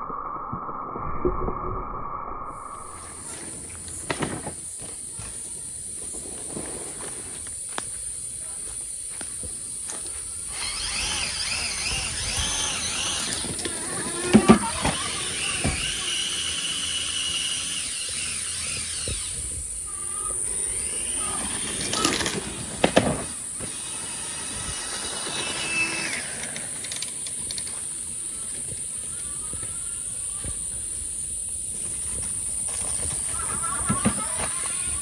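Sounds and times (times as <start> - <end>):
electric bike motor whining: 2.6 - 35.0.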